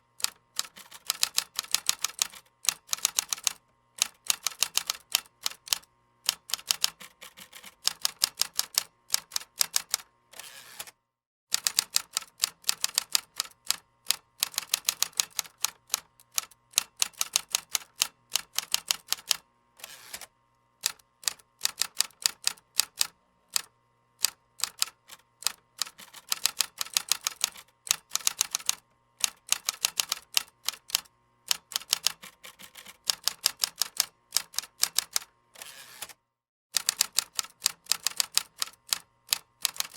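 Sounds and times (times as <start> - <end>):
keyboard typing: 0.2 - 10.1, 11.5 - 13.8, 14.4 - 19.4, 21.2 - 35.3, 36.8 - 39.9.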